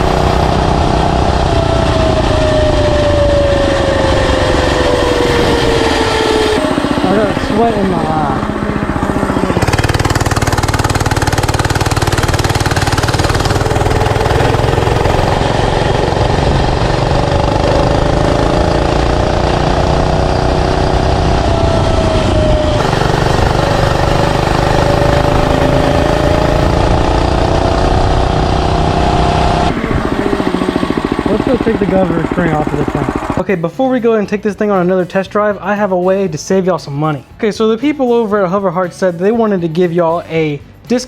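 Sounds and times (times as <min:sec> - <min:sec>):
mini bike engine running: 0:00.0 - 0:33.5.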